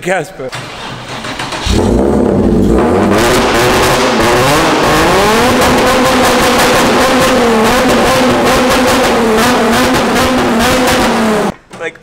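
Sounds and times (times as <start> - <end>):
engine cranking: 0.5 - 11.5
loud engine revving: 1.1 - 11.5.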